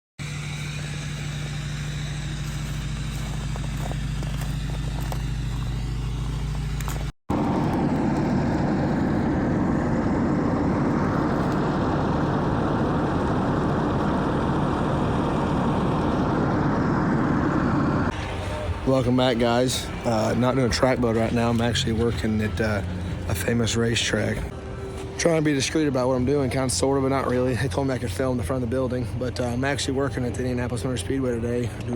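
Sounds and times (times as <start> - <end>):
vehicle engine running: 0.2 - 31.9.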